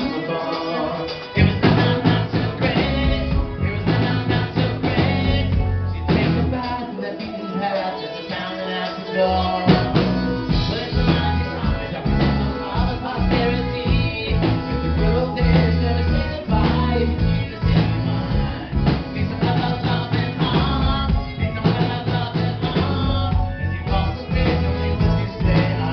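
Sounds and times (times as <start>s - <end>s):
accordion: 0.0s - 25.9s
drum kit: 0.0s - 25.9s
keyboards: 0.0s - 25.9s
low bass: 1.4s - 6.7s, 9.4s - 25.9s.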